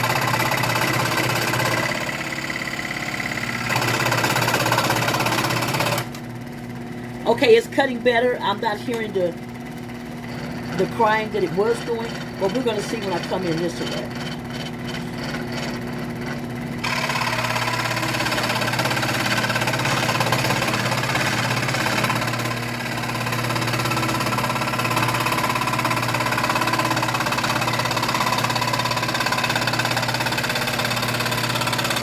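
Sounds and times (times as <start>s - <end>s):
scroll saw cutting wood: 0.0s - 6.3s, 9.9s - 32.0s.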